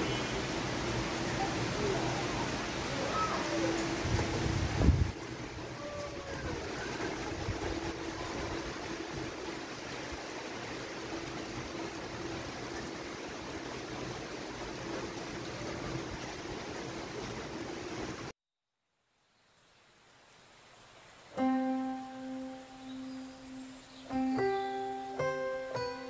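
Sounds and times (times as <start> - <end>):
steady rain falling: 0.0 - 18.3, 19.1 - 26.0.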